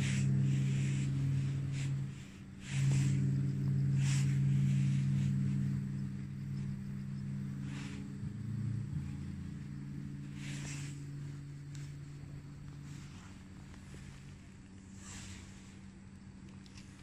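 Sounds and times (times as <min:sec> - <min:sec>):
low hum: 0:00.0 - 0:17.0
soft rustles: 0:00.0 - 0:17.0.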